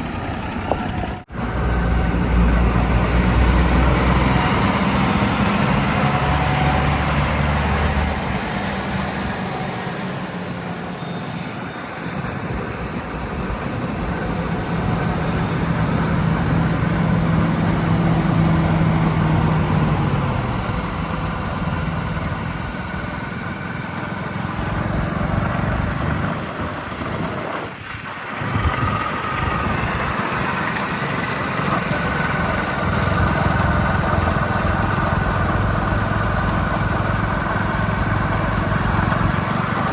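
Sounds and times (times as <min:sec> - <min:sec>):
heavy diesel engines idling and revving: 0:00.0 - 0:39.9.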